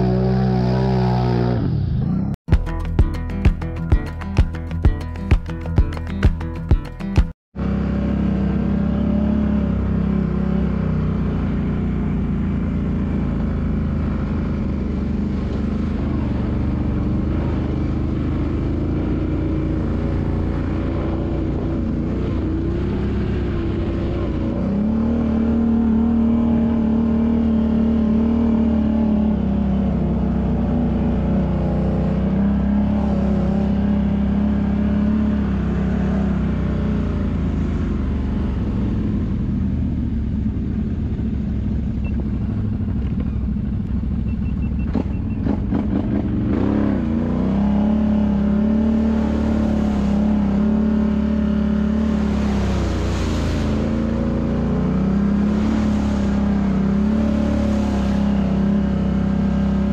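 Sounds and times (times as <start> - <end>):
atv engine running: 2.5 - 59.9.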